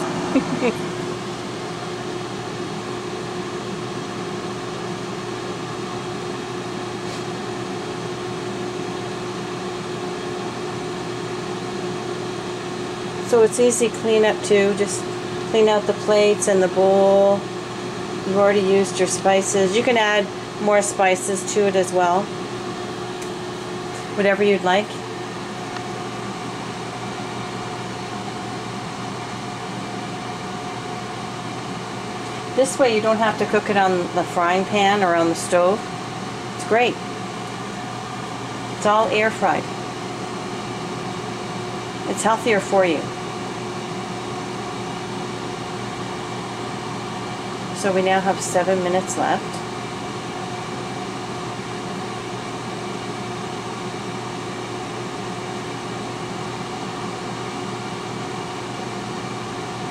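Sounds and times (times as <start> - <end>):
air fryer fan whirring: 0.0 - 59.9.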